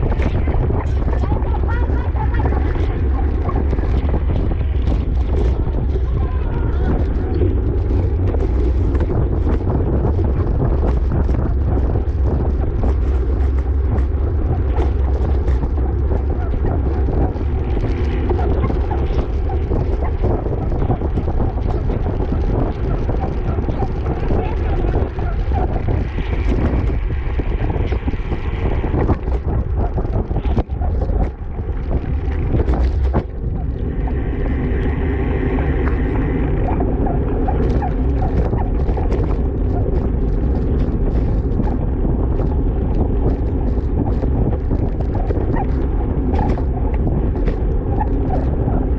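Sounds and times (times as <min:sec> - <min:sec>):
wind rushing over microphone: 0:00.0 - 0:48.9.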